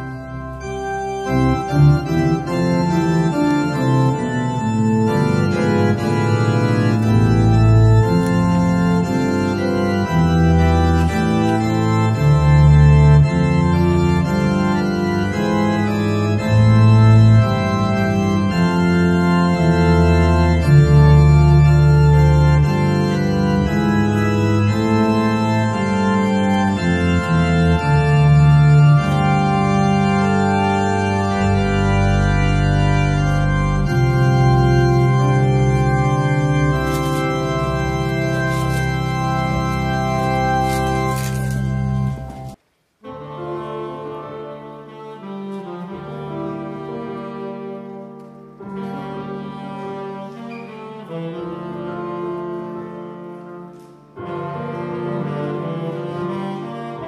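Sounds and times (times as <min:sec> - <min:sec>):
organ playing sustained chords: 0:00.0 - 0:57.0.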